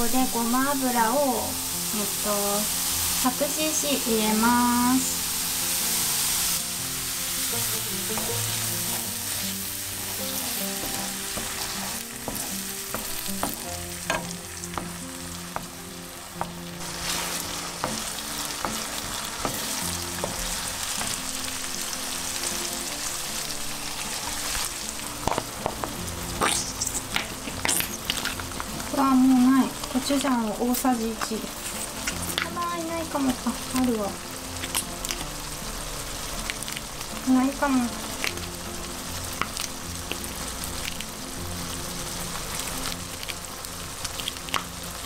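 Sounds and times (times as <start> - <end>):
oil sizzling in a frying pan: 0.0 - 45.0.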